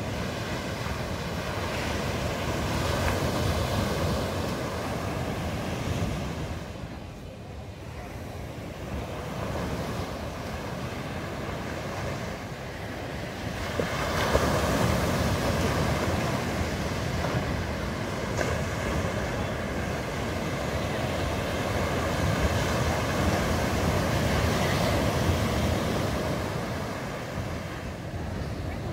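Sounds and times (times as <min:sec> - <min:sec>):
ocean surf breaking on beach: 0:00.0 - 0:28.9.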